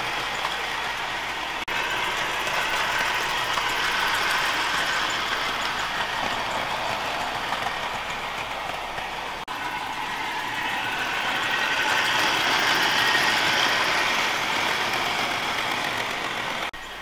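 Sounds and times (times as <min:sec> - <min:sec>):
model train motor whirring: 0:00.0 - 0:17.0
wagons rolling over rails: 0:00.0 - 0:17.0.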